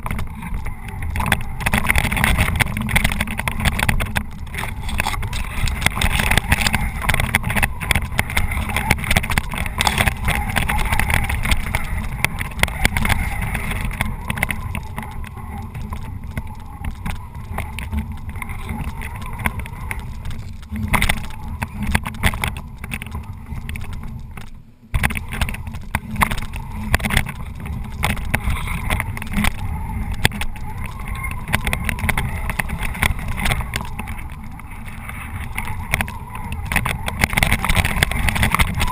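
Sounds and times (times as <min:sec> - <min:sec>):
electric motor and gearbox drone: 0:00.0 - 0:38.9.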